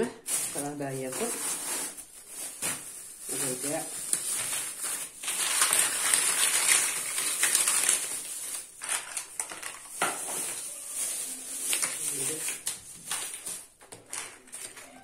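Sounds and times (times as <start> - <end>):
plastic bag crinkling: 0.2 - 15.0.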